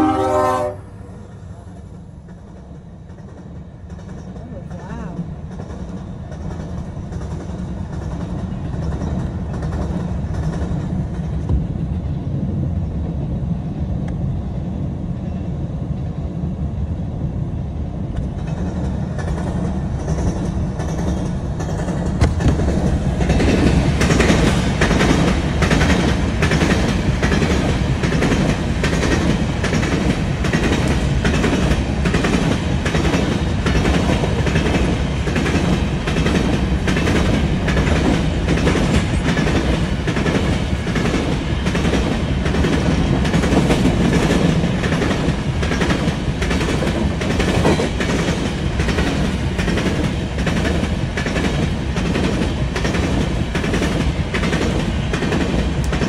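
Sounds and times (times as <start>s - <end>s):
train wheels rumbling on rail: 0.0s - 56.0s
wheels clacking over rail joints: 2.1s - 11.6s, 18.1s - 56.0s.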